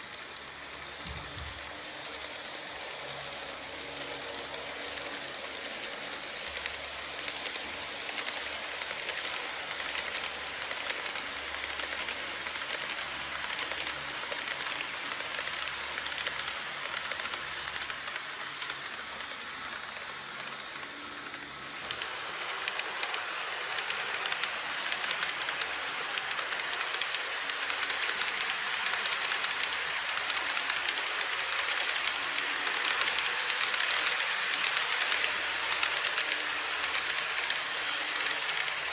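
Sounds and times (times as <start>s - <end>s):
model train wheels rattling on rails: 0.0s - 38.9s.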